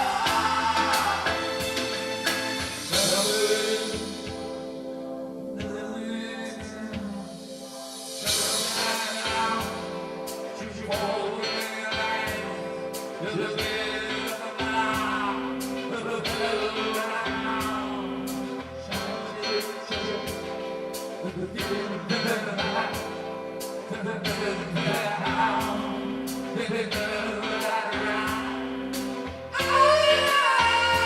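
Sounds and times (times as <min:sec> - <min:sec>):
person singing: 0:00.0 - 0:04.8, 0:05.4 - 0:31.0
instrumental music with steady beat: 0:00.0 - 0:31.0.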